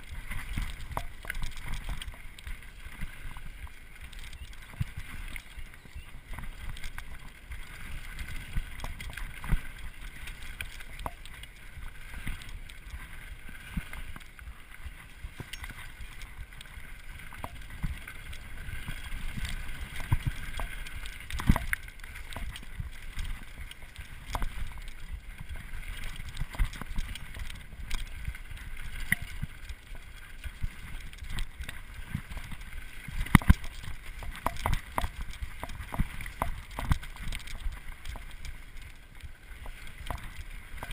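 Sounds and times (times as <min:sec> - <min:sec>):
bike clicking and rattling: 0:00.0 - 0:40.9
bike tyres rumbling on dirt: 0:00.0 - 0:40.9.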